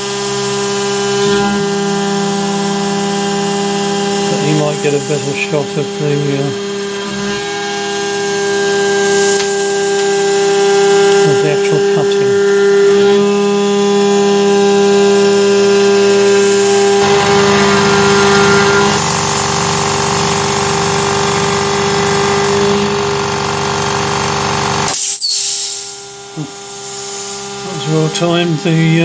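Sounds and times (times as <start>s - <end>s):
air compressor running: 0.0s - 29.0s
steady hum: 0.0s - 29.0s.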